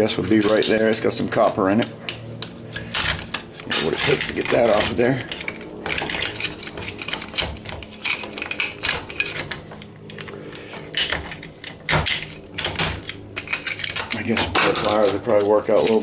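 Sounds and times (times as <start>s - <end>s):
screwdriver scraping metal: 0.0s - 16.0s.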